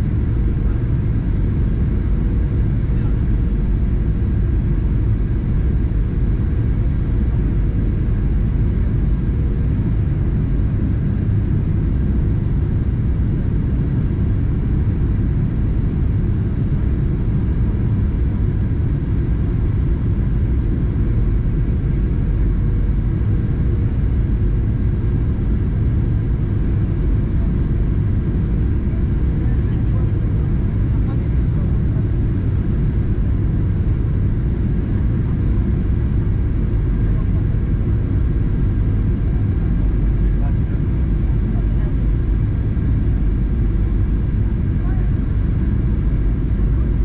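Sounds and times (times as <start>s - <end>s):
faint steady whines: 0.0s - 47.0s
jet engine rumble in cabin: 0.0s - 47.0s.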